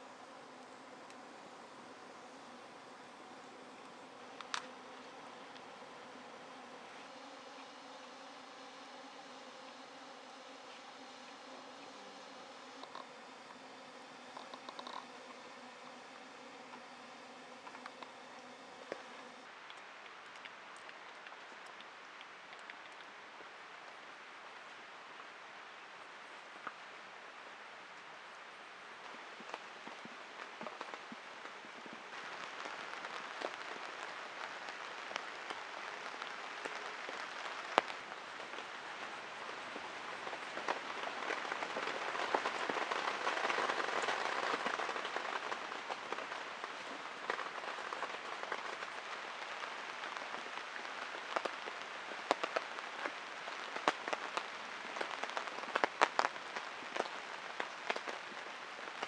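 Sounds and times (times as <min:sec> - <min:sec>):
close raindrops striking: 0:00.0 - 0:59.0
heavy rain falling: 0:00.0 - 0:59.0.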